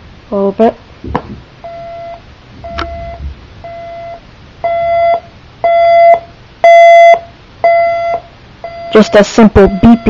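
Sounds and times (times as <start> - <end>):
alarm clock beeping: 1.6 - 10.0.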